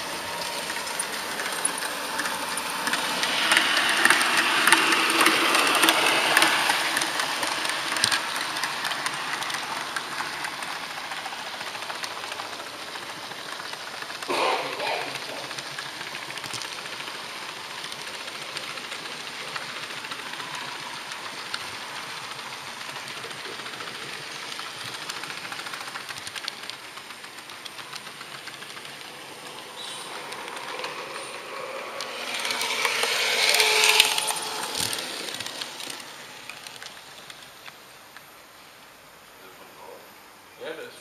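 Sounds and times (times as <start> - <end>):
model train rolling on track: 0.0 - 41.0.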